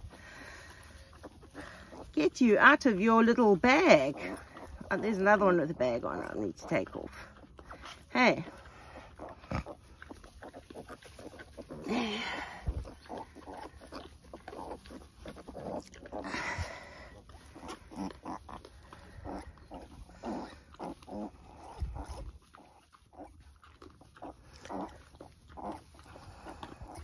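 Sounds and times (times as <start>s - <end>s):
pigs grunting and squeaking: 0.0s - 27.0s.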